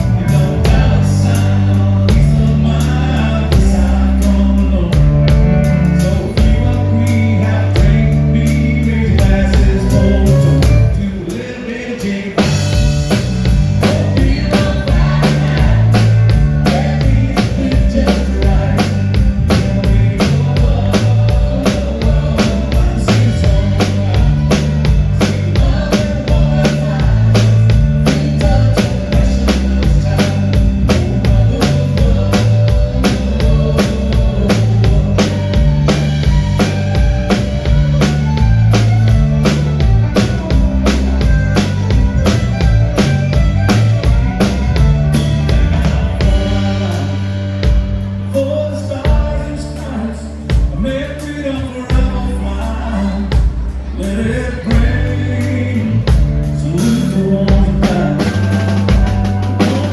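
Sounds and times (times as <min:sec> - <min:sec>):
drum kit beat: 0:00.0 - 0:49.6, 0:50.5 - 0:59.9
bass and guitars: 0:00.0 - 0:59.9.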